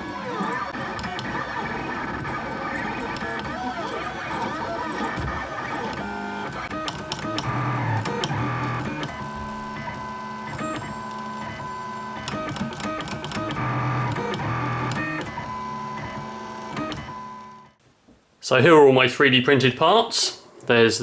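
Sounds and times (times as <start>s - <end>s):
stepper motors whining: 0.0s - 17.8s.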